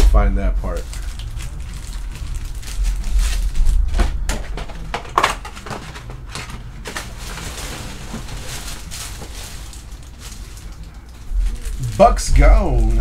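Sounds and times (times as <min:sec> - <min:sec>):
foil wrappers crinkling: 0:00.6 - 0:13.0.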